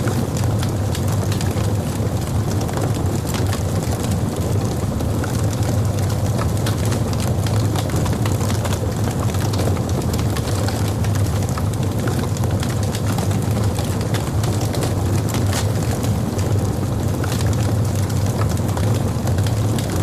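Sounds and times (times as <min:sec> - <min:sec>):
fire crackles and pops: 0:00.0 - 0:20.0
low rumble of fire: 0:00.0 - 0:20.0.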